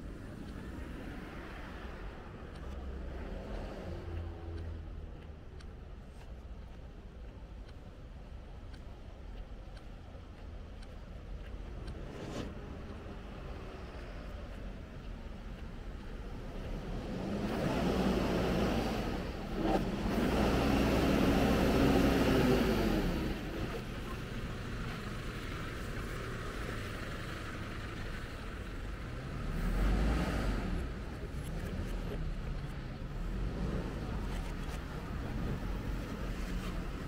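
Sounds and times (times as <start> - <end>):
steady street hum: 0.0 - 37.0
vehicles passing close by: 0.0 - 37.0.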